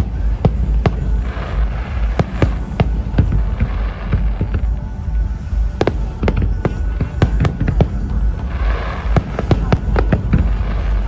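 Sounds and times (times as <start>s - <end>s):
firework hissing: 0.0s - 11.0s
fireworks bangs and cracks: 0.0s - 11.0s
low rumble: 0.0s - 11.0s.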